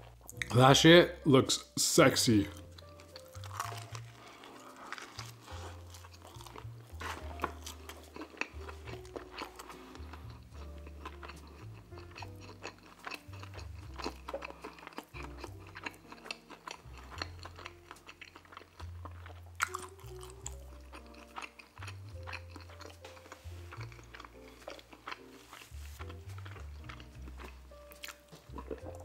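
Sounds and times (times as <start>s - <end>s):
wet chewing and mouth clicks: 0.0s - 0.5s, 2.5s - 29.0s.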